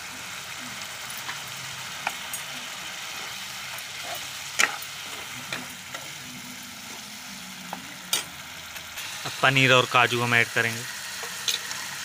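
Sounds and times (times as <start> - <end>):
masala sizzling in a pan: 0.0 - 12.0.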